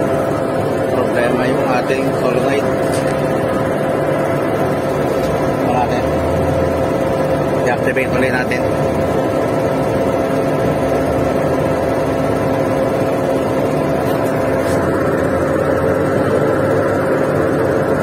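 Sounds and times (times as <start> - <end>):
pump truck engine droning: 0.0 - 18.0.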